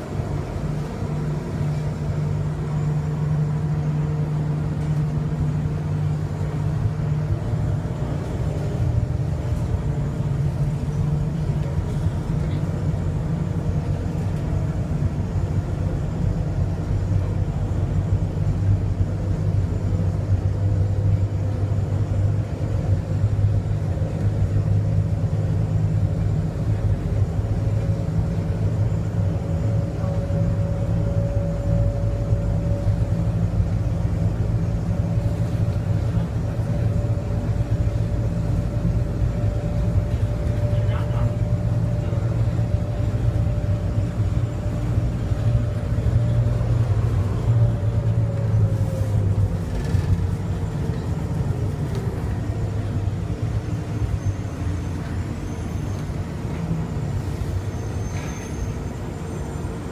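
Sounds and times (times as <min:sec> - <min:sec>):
train car rumbling on guideway: 0:00.0 - 0:59.9.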